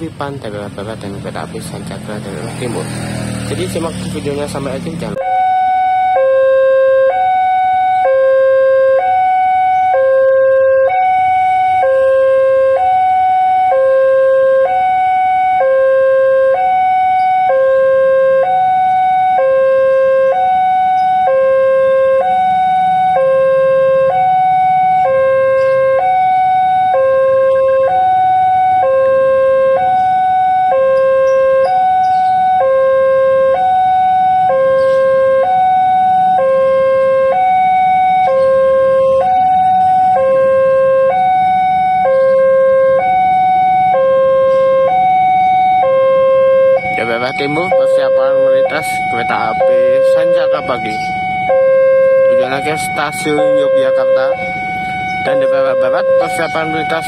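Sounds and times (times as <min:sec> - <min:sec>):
level crossing two-tone alarm: 0:05.2 - 0:57.0.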